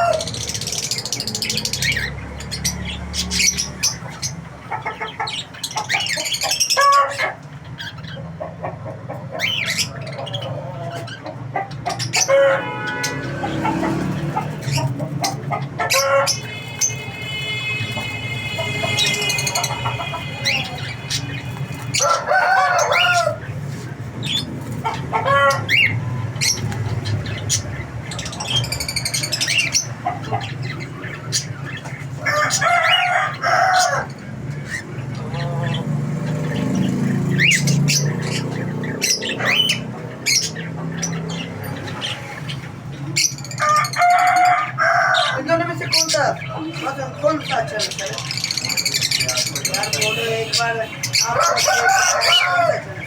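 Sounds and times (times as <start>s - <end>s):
chickens clucking: 0.0s - 53.0s
roosters crowing: 0.0s - 53.0s.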